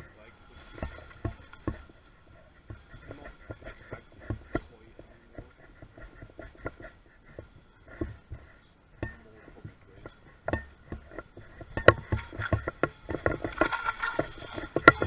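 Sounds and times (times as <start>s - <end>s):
low bumps: 0.0s - 15.0s.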